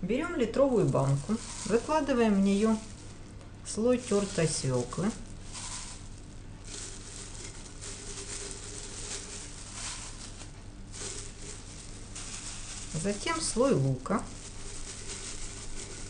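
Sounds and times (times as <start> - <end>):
grated vegetable rustling and squishing: 0.1 - 16.0
steady hiss: 0.9 - 16.0.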